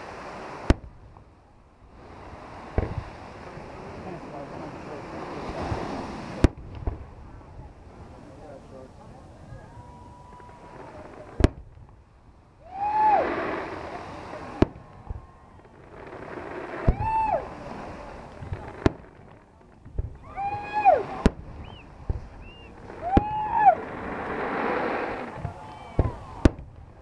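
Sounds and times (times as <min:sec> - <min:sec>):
fireworks bangs: 0:00.0 - 0:01.2, 0:01.9 - 0:08.6, 0:09.4 - 0:12.0, 0:12.6 - 0:27.0
fireworks rushing hiss: 0:00.0 - 0:11.9, 0:12.6 - 0:27.0.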